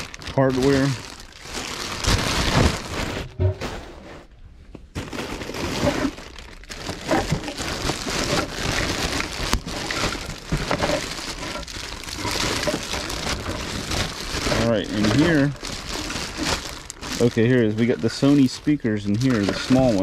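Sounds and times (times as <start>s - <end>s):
plastic bag crinkling: 0.0s - 4.1s, 4.9s - 20.0s.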